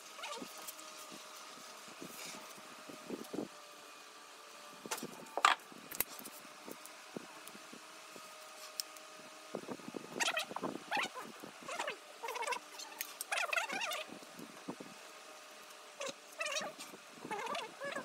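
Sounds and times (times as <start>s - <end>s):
faint machine hum with whine: 0.0s - 18.0s.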